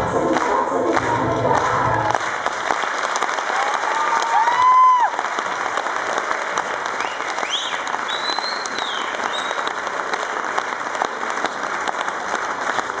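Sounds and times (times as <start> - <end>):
audience applauding: 0.3 - 13.0.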